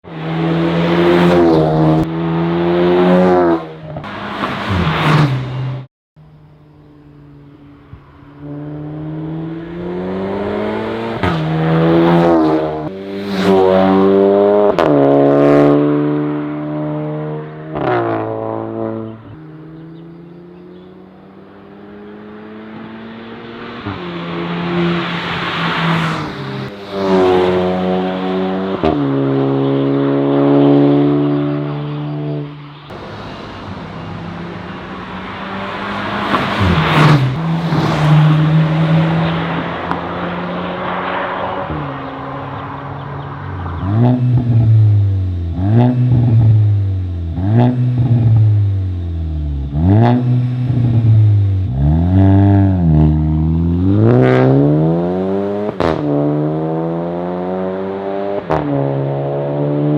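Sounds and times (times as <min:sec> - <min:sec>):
car engine accelerating hard: 0:00.0 - 0:05.9, 0:08.3 - 0:59.9.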